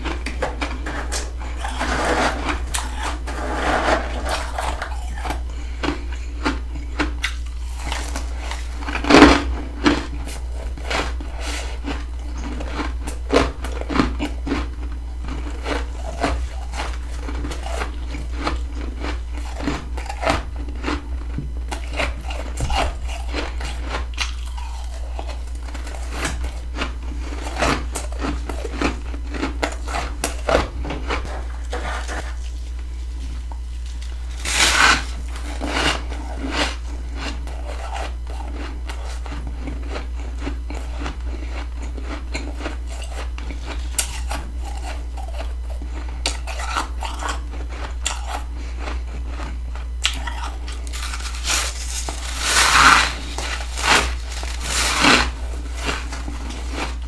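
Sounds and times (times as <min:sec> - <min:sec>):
crunchy chewing of frost: 0:00.0 - 0:57.0
steady low hum: 0:00.0 - 0:57.0.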